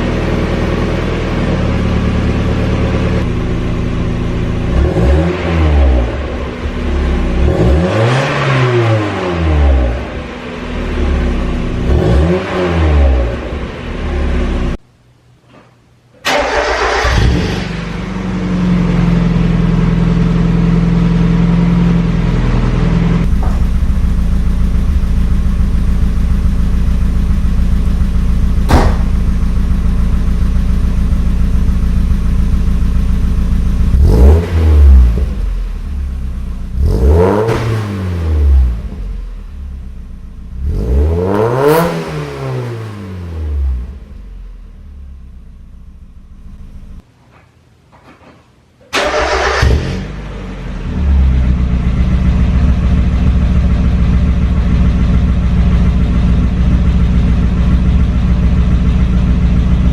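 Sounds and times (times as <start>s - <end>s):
car engine idling and revving: 0.0s - 14.8s, 16.6s - 47.0s, 49.0s - 59.9s.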